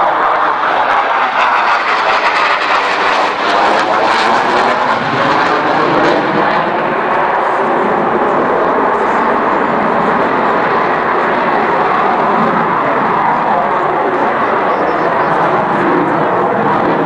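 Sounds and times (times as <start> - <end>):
fighter jet roar with crackle: 0.0 - 17.0.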